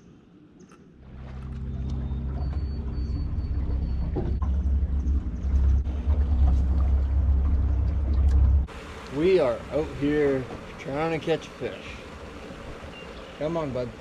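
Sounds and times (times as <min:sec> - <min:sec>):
boat motor rumbling: 0:01.0 - 0:14.0.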